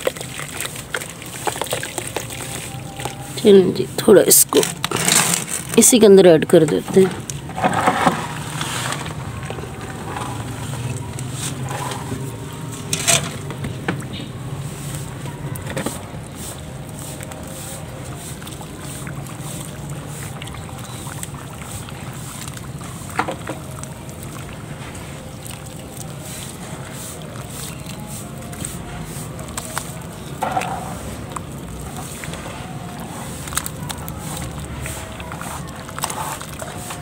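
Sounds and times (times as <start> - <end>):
water sloshing: 0.0 - 37.0
water splashing: 0.0 - 37.0.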